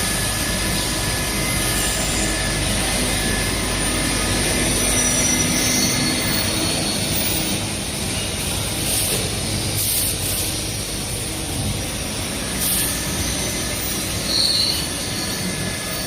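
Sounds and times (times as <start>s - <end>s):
lathe machining metal: 0.0s - 16.0s.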